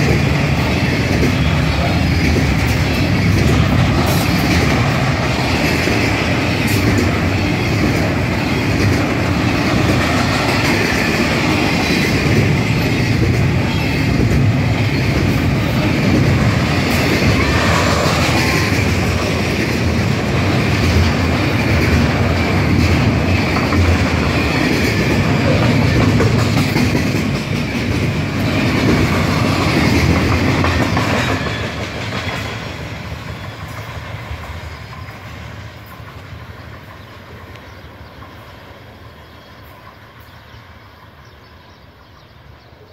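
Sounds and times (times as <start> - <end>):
freight train wheels clacking: 0.0 - 42.6.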